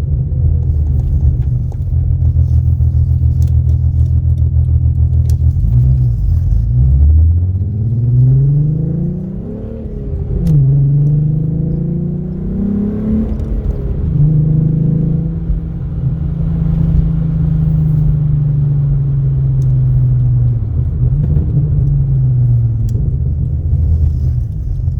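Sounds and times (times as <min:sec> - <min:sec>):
car engine accelerating through gears: 0:00.0 - 0:24.9.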